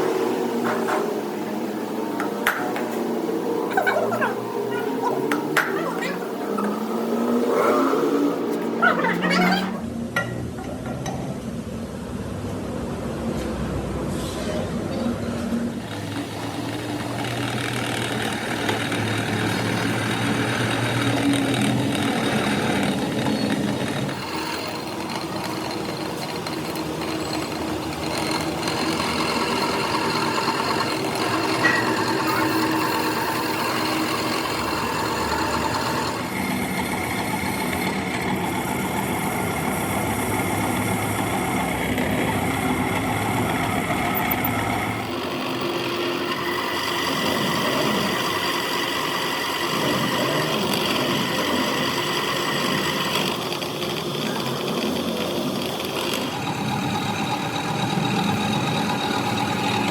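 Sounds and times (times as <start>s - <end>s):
engine running: 0.0s - 10.6s, 15.6s - 59.9s.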